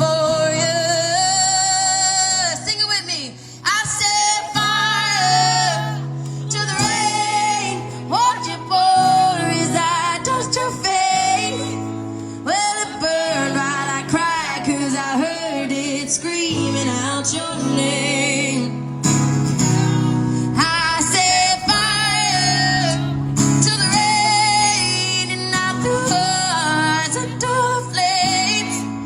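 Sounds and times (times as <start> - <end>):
guitar accompaniment: 0.0 - 29.0
young woman singing a pop ballad: 0.0 - 29.0.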